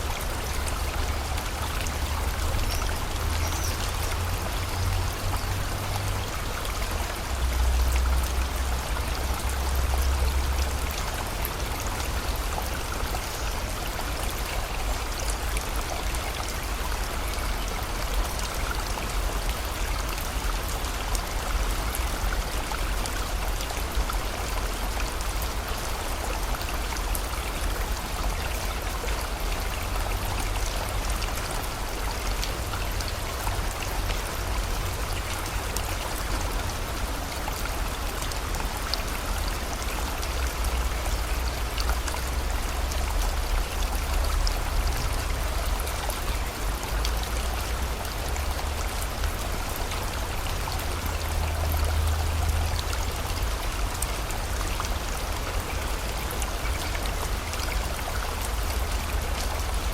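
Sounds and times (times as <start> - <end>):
rain falling: 0.0 - 59.9
stream flowing: 0.0 - 59.9.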